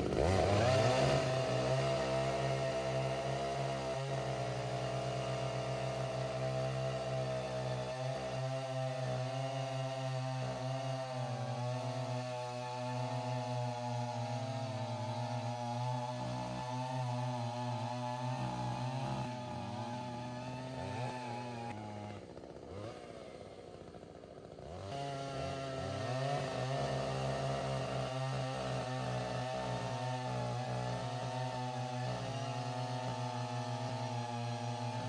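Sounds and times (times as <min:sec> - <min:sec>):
earth auger engine revving: 0:00.0 - 0:35.0.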